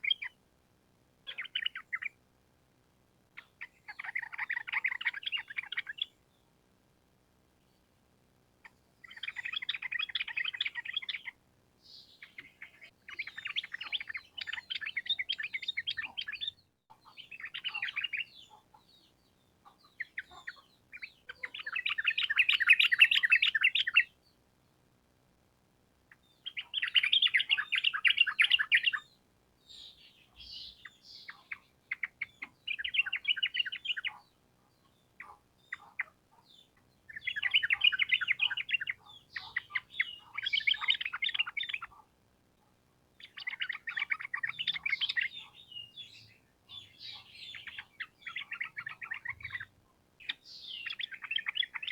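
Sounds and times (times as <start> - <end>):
bird chattering song: 0.0 - 0.4, 1.3 - 2.2, 3.4 - 6.2, 8.6 - 24.4, 26.1 - 42.1, 43.2 - 51.9.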